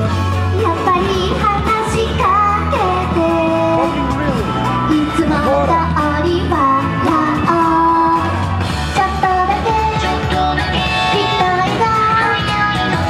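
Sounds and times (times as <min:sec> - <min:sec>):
bass: 0:00.0 - 0:13.0
woman singing pop song: 0:00.0 - 0:13.0.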